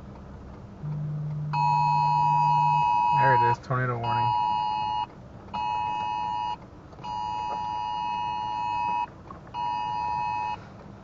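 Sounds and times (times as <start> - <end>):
two-tone phone alert beep: 0.8 - 10.6.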